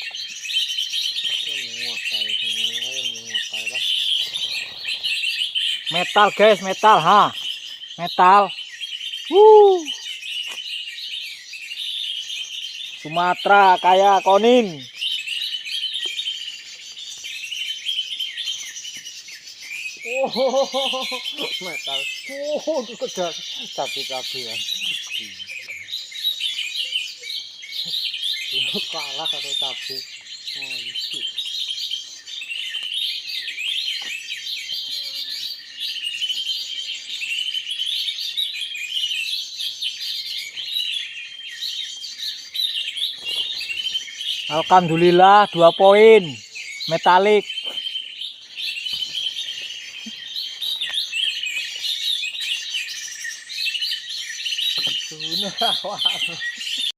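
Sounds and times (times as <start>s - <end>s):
songbirds chirping and twittering: 0.0s - 56.9s.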